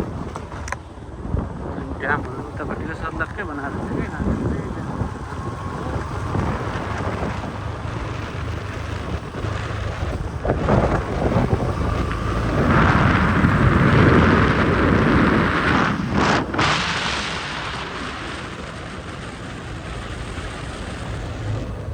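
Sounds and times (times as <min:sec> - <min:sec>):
vehicle rumble: 0:00.0 - 0:21.9
wind buffeting microphone: 0:00.0 - 0:21.9.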